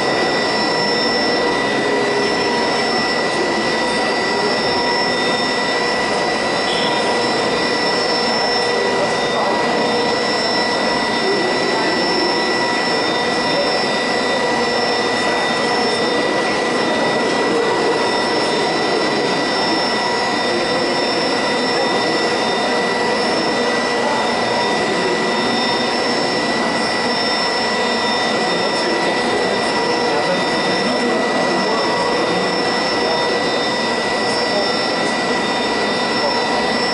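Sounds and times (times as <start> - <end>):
winding engine rush and whine: 0.0 - 36.9.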